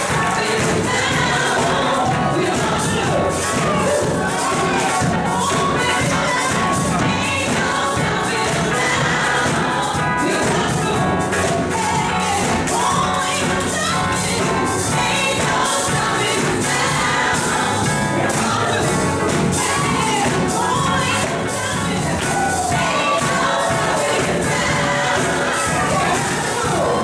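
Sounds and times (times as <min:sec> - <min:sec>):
gospel choir singing: 0:00.0 - 0:27.0
steady beat: 0:00.0 - 0:27.0.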